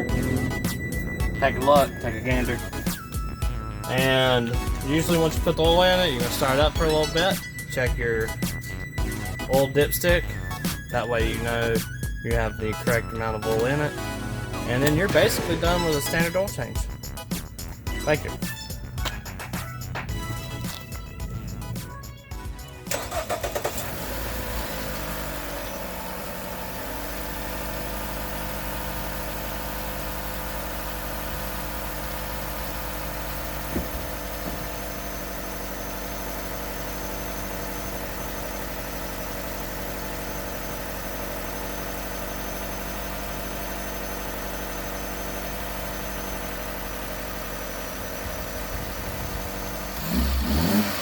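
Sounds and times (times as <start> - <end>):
car engine starting and idling: 0.0 - 51.0.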